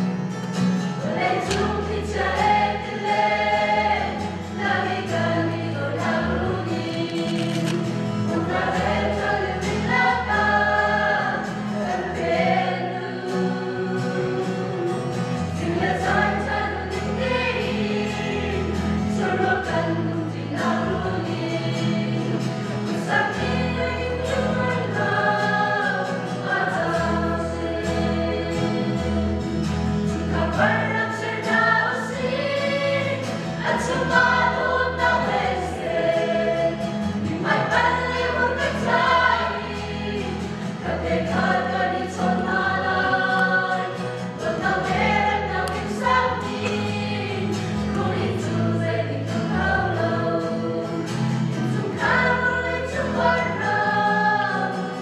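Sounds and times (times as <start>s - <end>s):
choir singing: 0.9s - 55.0s.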